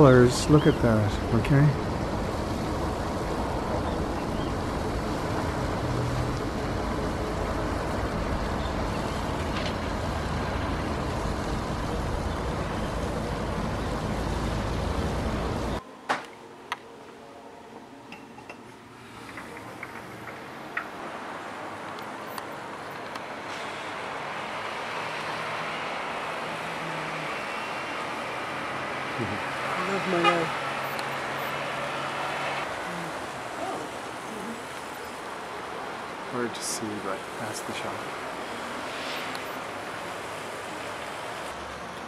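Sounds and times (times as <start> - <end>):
distant road traffic: 0.0 - 42.0.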